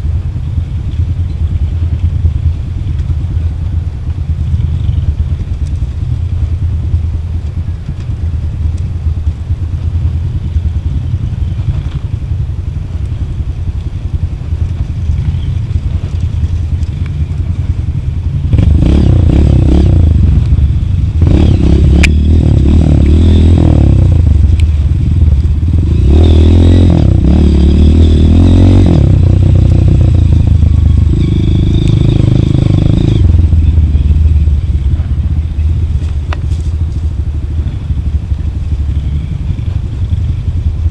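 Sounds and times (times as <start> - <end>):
motorcycle engine running: 0.0 - 40.9
motorcycle rattling: 0.0 - 40.9.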